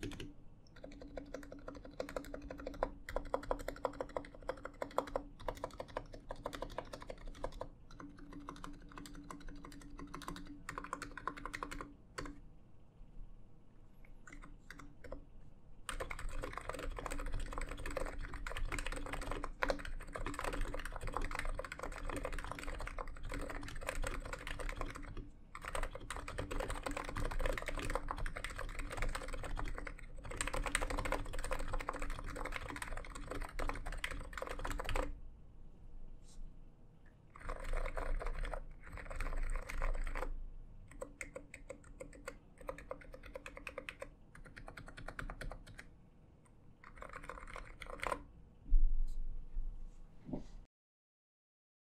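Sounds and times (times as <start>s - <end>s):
typing on a keyboard: 0.0s - 12.4s, 14.3s - 15.2s, 15.9s - 35.2s, 37.3s - 40.3s, 40.9s - 45.9s, 46.8s - 48.3s.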